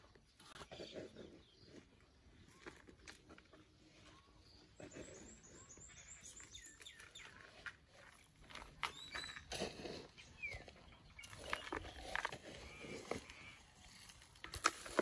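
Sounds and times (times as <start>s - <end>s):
small bird chirping: 0.1s - 14.2s.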